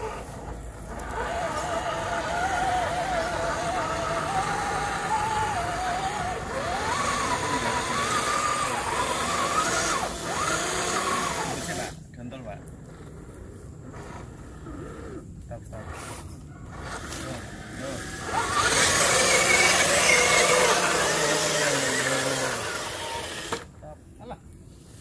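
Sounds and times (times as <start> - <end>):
toy truck electric motor whining: 0.0 - 12.0, 12.8 - 23.7.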